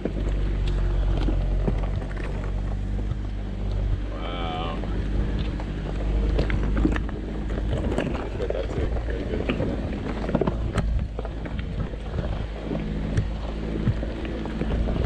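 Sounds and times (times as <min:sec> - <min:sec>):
tyres crunching over rocks: 0:00.0 - 0:15.0
vehicle engine running low: 0:00.0 - 0:15.0.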